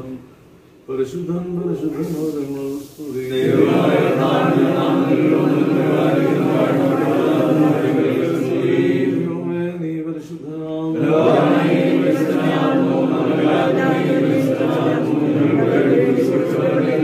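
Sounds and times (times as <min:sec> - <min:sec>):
men chanting a prayer: 0:00.9 - 0:17.0.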